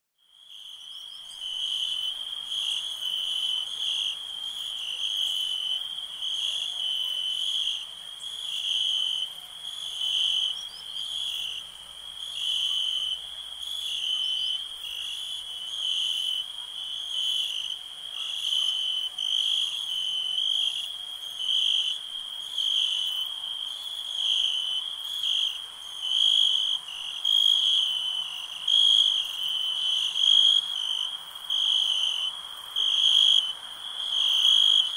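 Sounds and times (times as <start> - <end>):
crickets chirping: 0.2 - 34.9.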